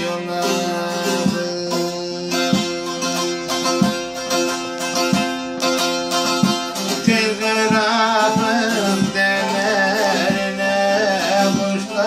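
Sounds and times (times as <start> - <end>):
plucked long-necked lute: 0.0 - 12.0.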